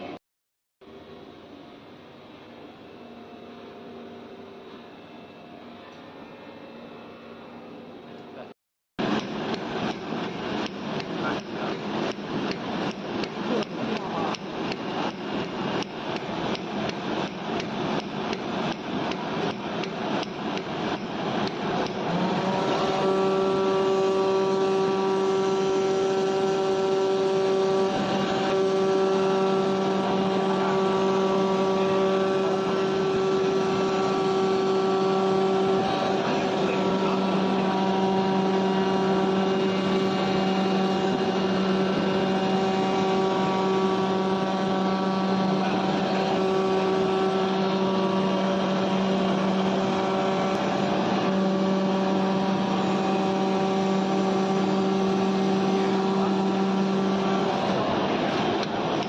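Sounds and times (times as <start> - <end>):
cutting machine humming: 9.0 - 59.0.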